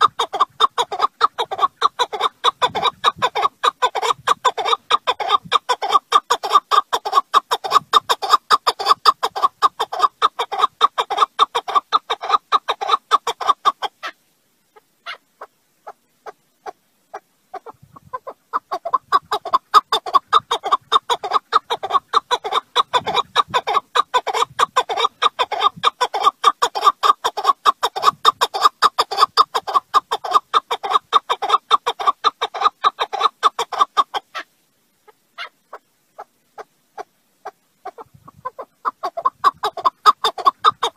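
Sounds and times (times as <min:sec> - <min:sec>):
partridge clucking calls: 0:00.0 - 0:40.9.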